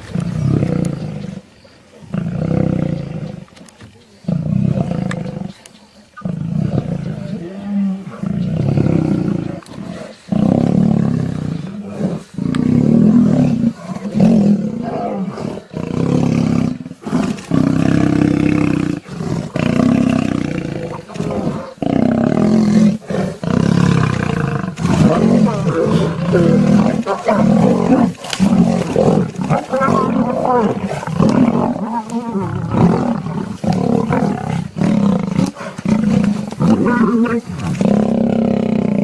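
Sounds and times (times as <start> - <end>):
lions roaring: 6.2 - 39.0.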